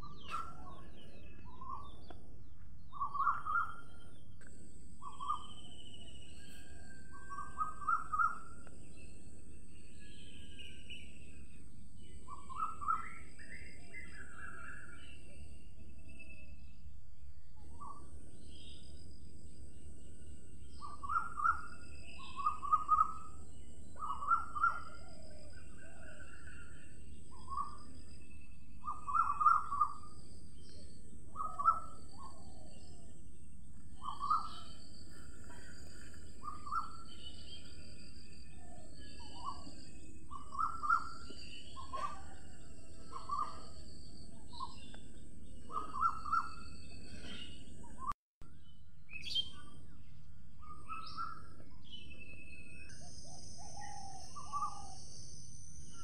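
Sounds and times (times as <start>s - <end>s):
birds calling: 0.0s - 16.8s, 17.6s - 48.2s, 49.1s - 56.0s.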